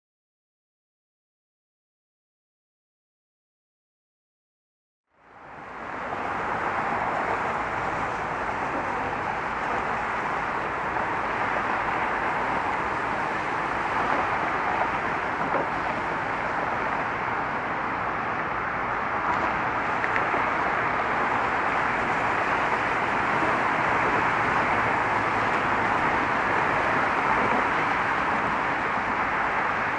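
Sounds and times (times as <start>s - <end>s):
traffic crossing a bridge: 5.1s - 29.9s.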